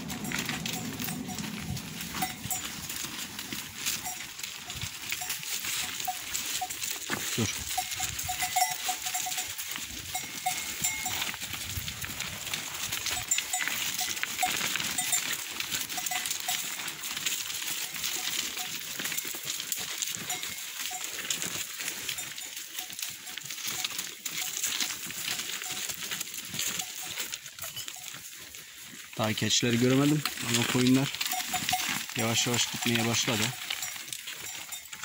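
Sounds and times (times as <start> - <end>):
animal bells clinking: 0.0 - 35.0
hooves clicking on stones: 0.0 - 35.0.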